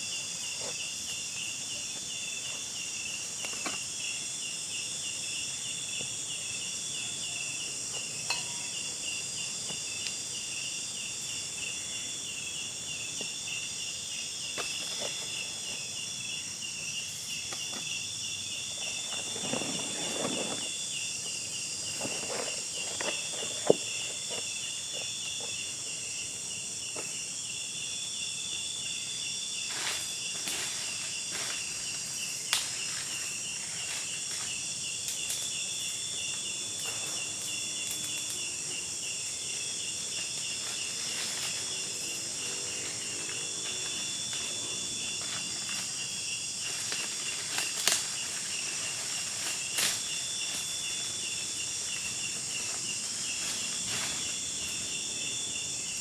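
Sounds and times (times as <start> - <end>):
high insect buzz: 0.0 - 56.0
insect chirping trill: 0.0 - 56.0.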